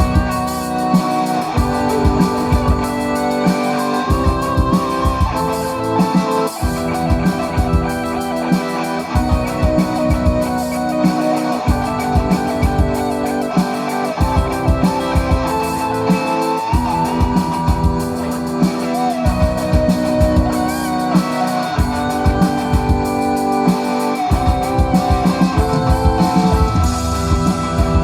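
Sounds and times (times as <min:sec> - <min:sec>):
live instrumental rock music: 0:00.0 - 0:28.0.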